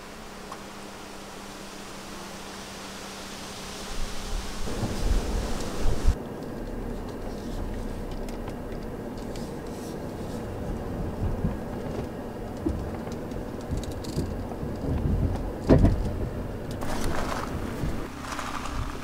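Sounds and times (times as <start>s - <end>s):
tyres rumbling on gravel: 0.0s - 19.0s.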